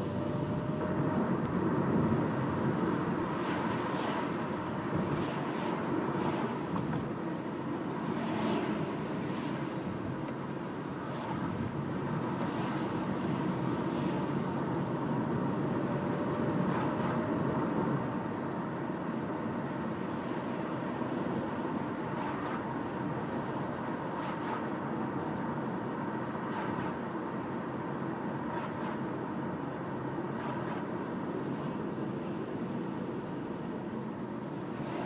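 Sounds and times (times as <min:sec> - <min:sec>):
car road noise from inside: 0:00.0 - 0:35.0.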